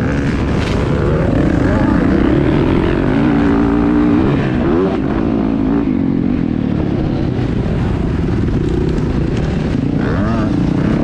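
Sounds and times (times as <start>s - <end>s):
dirt bike engine revving: 0.0s - 7.8s, 8.4s - 11.0s.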